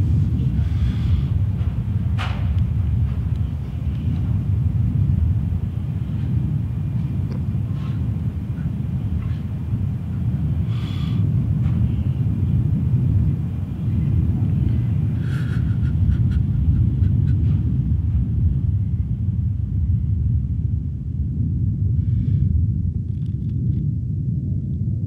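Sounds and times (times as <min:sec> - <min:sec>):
deep rumble: 0:00.0 - 0:25.0.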